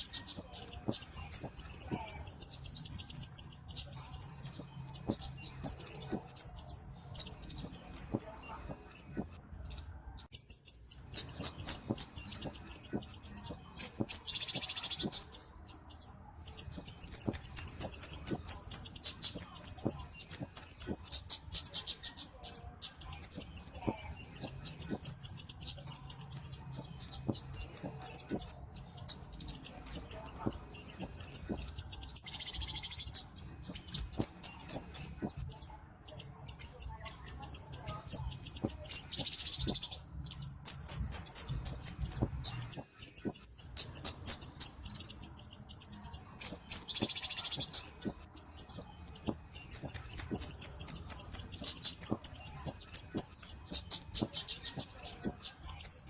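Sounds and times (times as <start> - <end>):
bird singing high ticking notes: 0.0 - 56.0.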